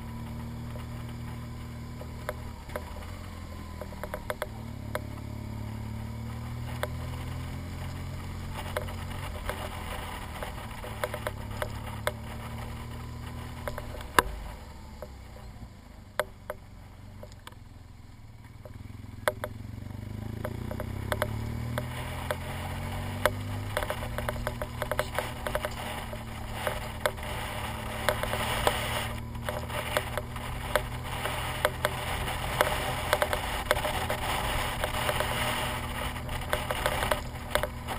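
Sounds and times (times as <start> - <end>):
motorcycle engine running: 0.0 - 37.9
sharp clicks and knocks: 0.2 - 5.2, 6.5 - 15.5, 16.1 - 16.6, 17.2 - 17.6, 18.4 - 19.6, 20.3 - 37.9.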